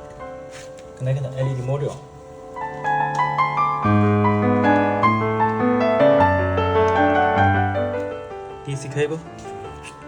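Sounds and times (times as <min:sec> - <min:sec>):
piano melody: 0:00.0 - 0:10.0.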